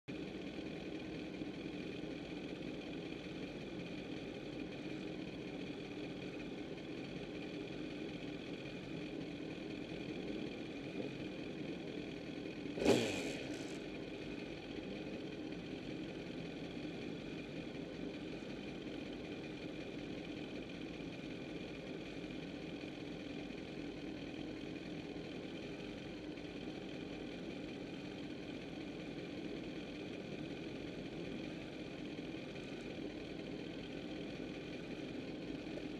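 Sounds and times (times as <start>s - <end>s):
motorcycle engine idling: 0.1s - 35.9s.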